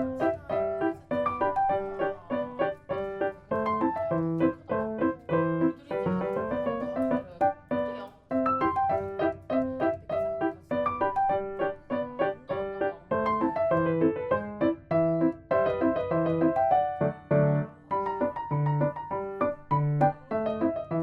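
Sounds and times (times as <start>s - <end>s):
light piano melody: 0.0s - 21.0s.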